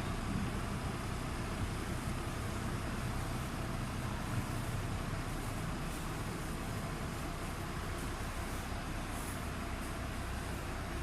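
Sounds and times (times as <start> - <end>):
low drive hum: 0.0 - 11.0.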